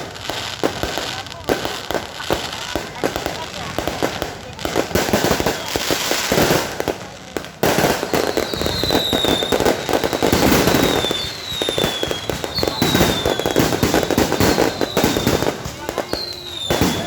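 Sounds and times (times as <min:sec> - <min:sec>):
fireworks crackling and banging: 0:00.0 - 0:17.0
whistling rockets: 0:00.0 - 0:17.0.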